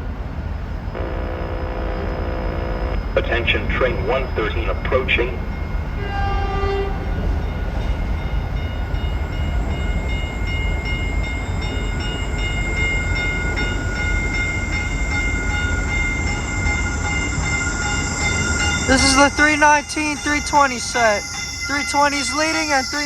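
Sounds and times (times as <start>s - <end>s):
electric train rumbling: 0.0s - 23.0s
high-pitched train tones: 0.0s - 23.0s.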